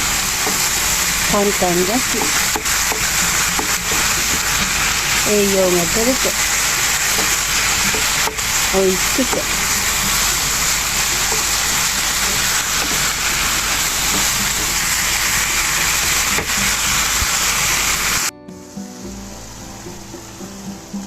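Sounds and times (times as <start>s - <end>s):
food sizzling in a frying pan: 0.0s - 21.0s
soft background music: 0.0s - 21.0s.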